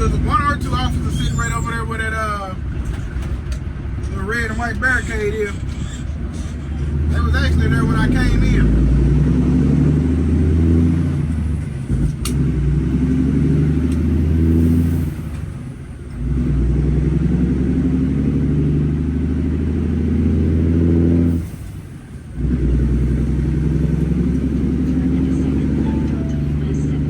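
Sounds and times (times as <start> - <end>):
truck diesel engine under load: 0.0 - 27.0.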